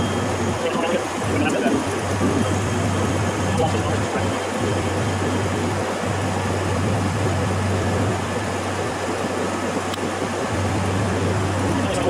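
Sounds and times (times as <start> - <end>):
refrigeration compressor humming: 0.0 - 12.0.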